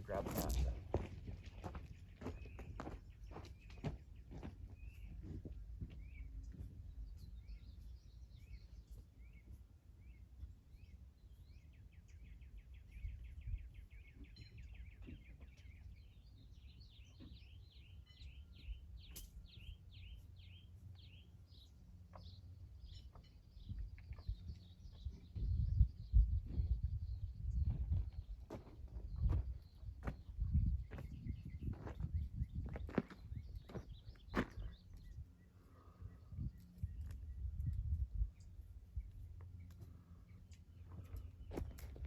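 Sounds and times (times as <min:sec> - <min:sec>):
low rumble of wind: 0:00.0 - 0:42.0
songbirds chirping and trilling: 0:00.0 - 0:42.0.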